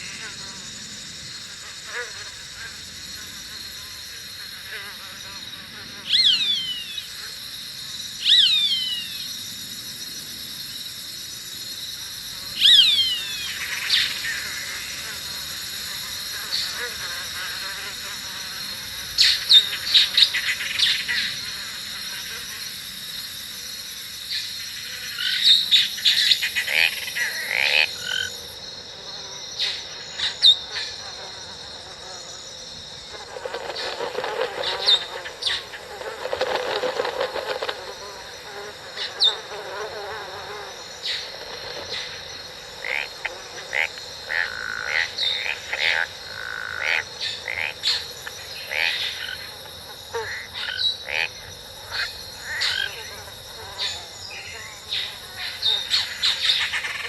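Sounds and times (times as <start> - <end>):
high insect buzz: 0.0 - 57.0.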